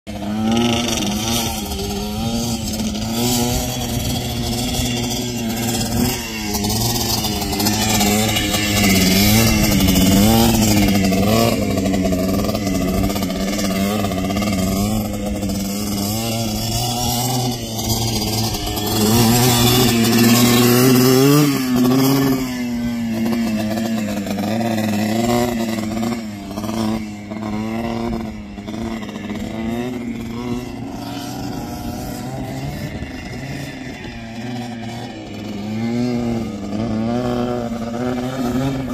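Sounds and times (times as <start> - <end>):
atv engine revving: 0.1 - 38.9.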